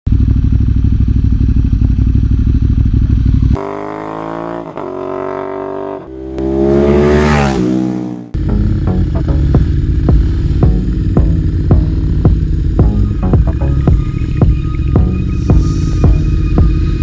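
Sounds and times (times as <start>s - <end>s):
motorcycle engine accelerating: 0.1s - 17.0s.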